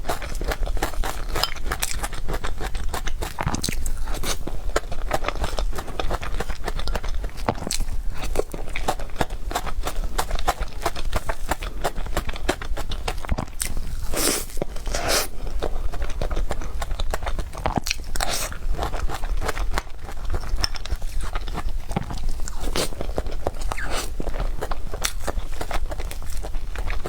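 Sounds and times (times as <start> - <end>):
bites and chews: 0.0 - 27.0.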